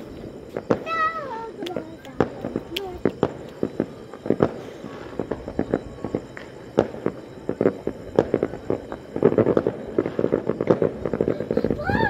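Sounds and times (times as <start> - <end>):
firecrackers rapid crackling: 0.0 - 12.0
fireworks popping: 0.0 - 12.0.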